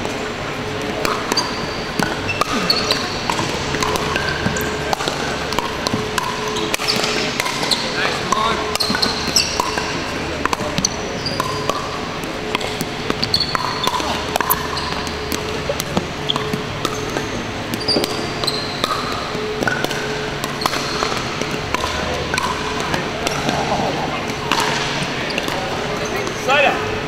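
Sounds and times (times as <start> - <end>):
sneakers squeaking on hardwood: 1.2 - 26.5.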